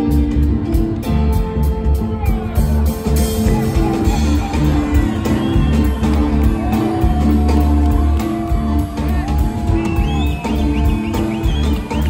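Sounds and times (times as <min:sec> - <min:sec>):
drum kit: 0:00.0 - 0:12.0
guitar: 0:00.0 - 0:12.0
keyboard: 0:00.0 - 0:12.0
low bass notes: 0:00.0 - 0:12.0.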